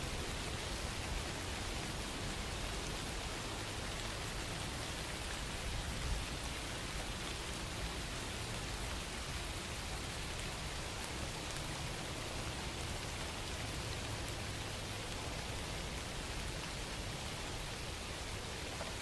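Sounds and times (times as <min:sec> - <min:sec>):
rain pattering on a surface: 0:00.0 - 0:19.0.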